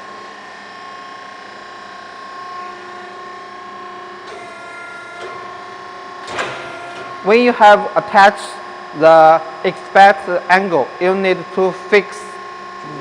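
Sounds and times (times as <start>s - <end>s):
hydraulic power unit humming: 0.0s - 13.0s.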